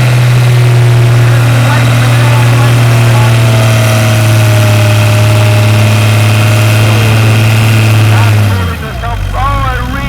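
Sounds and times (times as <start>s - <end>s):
loud tractor engine running: 0.0s - 10.0s.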